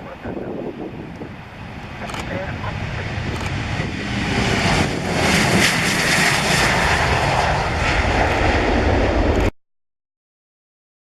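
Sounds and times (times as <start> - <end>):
jet engine roar: 0.0 - 9.5.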